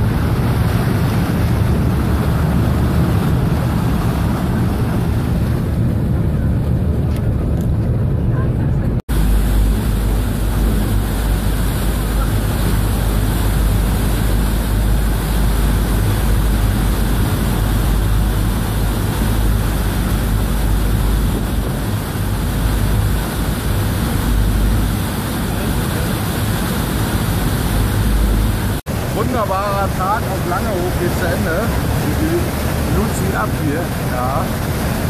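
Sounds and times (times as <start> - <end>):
low engine rumble: 0.0 - 35.0
propeller wash churning: 0.0 - 35.0
wind on microphone: 0.0 - 35.0.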